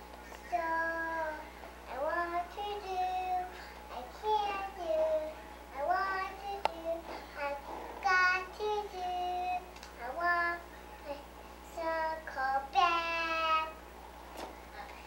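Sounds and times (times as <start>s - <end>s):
girl singing unaccompanied: 0.4s - 13.8s.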